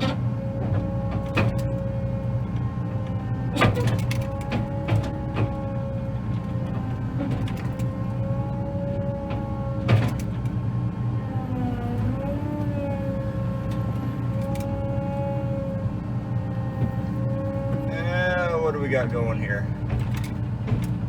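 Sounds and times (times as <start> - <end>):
combine engine running: 0.0 - 21.0.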